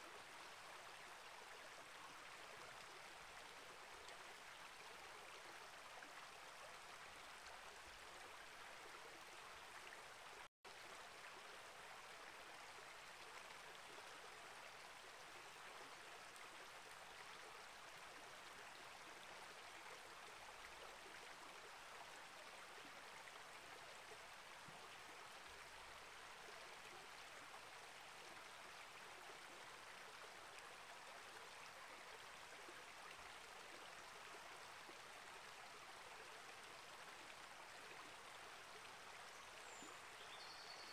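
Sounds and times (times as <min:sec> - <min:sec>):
creek trickling over rocks: 0:00.0 - 0:40.9.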